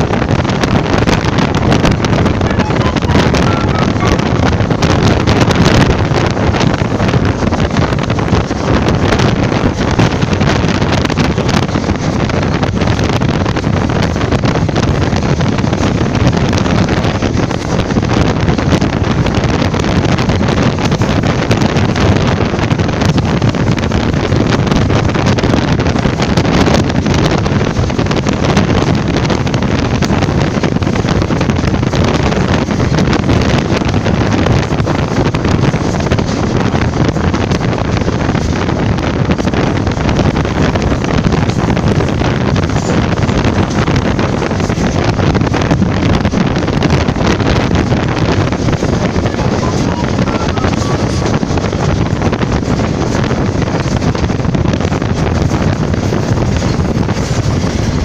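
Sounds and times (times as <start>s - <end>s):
train running on track: 0.0s - 58.0s
wind buffeting microphone: 0.0s - 58.0s.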